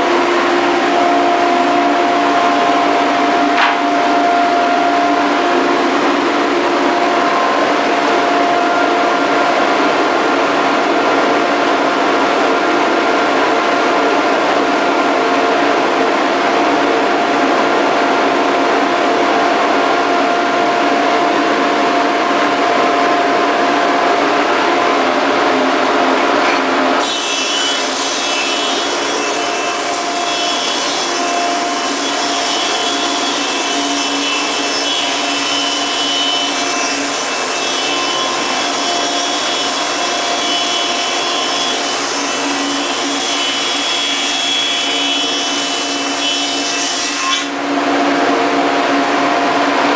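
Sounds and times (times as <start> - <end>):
planer planing a board: 0.0 - 49.8.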